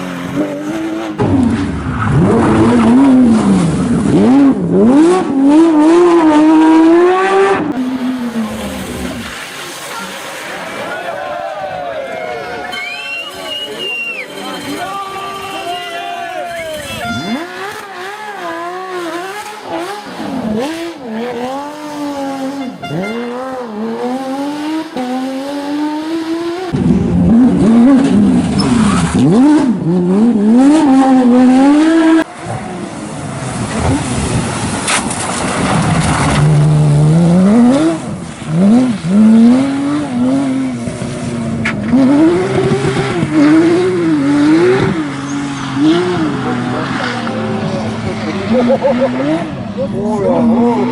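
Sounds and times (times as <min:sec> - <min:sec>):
racing car engines accelerating: 0:00.0 - 0:50.9.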